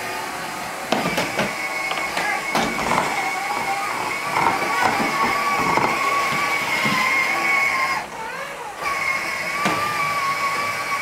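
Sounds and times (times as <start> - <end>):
toy electric motor whining: 1.1 - 11.0.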